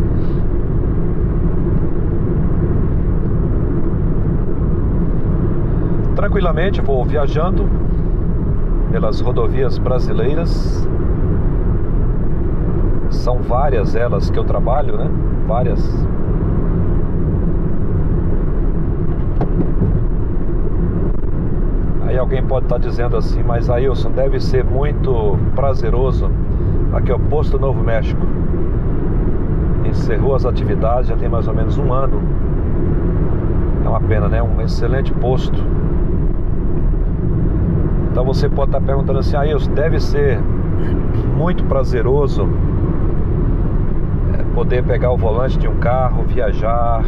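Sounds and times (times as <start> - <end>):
car engine and tyres rumbling: 0.0 - 47.0.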